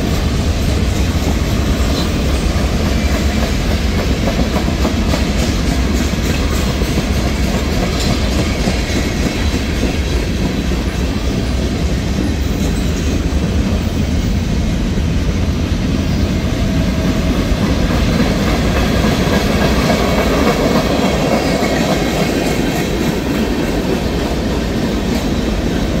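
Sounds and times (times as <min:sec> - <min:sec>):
steel wheels rolling on rails: 0:00.0 - 0:26.0.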